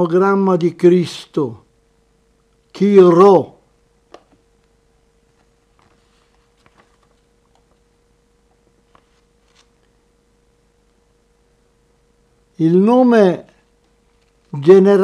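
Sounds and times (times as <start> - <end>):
thin steady hum: 0.0 - 15.0.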